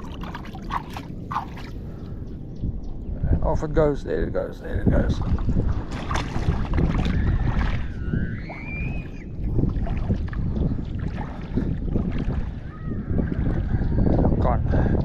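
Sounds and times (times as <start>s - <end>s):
sea wash: 0.0s - 2.5s, 4.3s - 15.0s
wind buffeting microphone: 0.0s - 15.0s.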